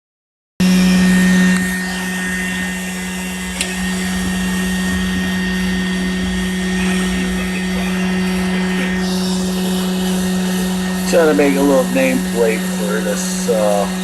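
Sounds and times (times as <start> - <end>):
motor humming with whine: 0.6 - 14.0.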